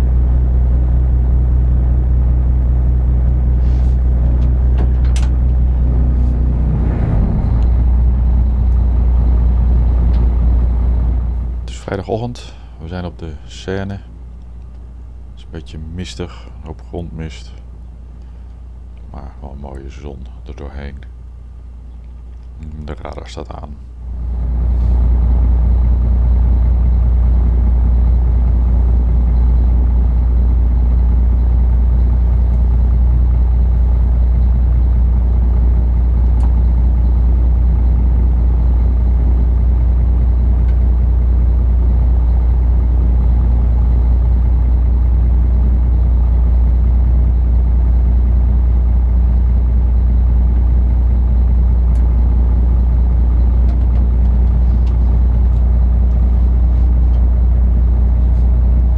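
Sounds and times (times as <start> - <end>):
ship diesel engine droning: 0.0 - 58.9.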